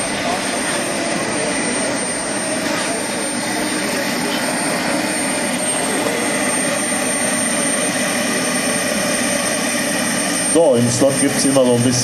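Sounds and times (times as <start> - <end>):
engine and propeller rush: 0.0 - 12.0
model turboprop engine whine: 0.0 - 12.0.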